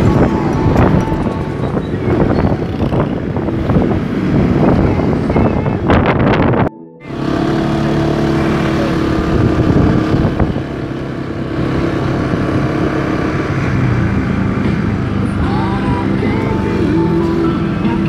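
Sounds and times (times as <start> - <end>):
motor scooter engine running: 0.0 - 18.0.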